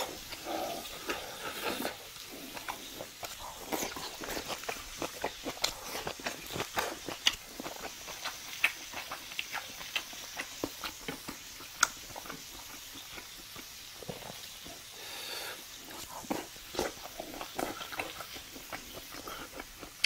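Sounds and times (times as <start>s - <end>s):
chewing mouth sounds: 0.0s - 14.9s, 15.8s - 20.0s.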